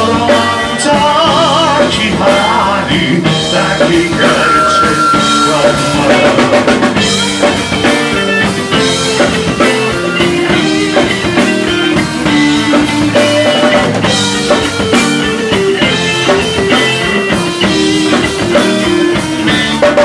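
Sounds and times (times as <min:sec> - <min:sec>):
drum kit playing a beat: 0:00.0 - 0:20.0
electric guitar: 0:00.0 - 0:20.0.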